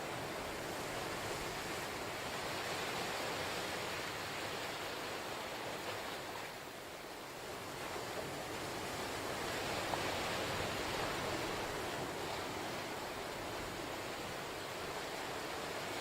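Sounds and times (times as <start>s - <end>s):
ocean surf washing ashore: 0.0s - 16.0s.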